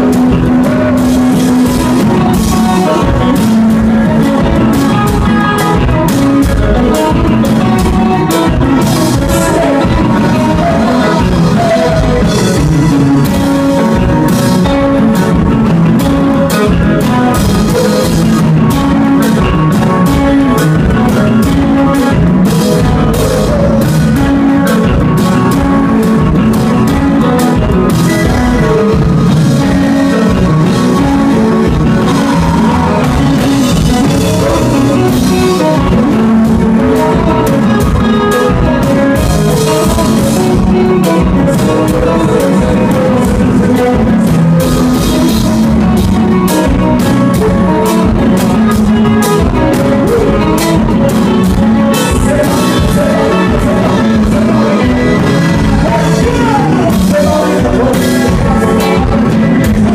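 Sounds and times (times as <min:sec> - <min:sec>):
drum kit beat: 0:00.0 - 0:59.9
electric guitar: 0:00.0 - 0:59.9.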